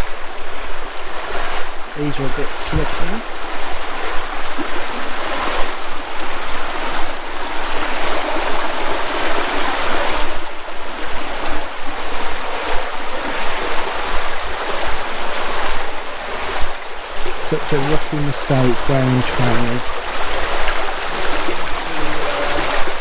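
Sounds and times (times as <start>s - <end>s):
river water rushing over stones: 0.2s - 23.0s.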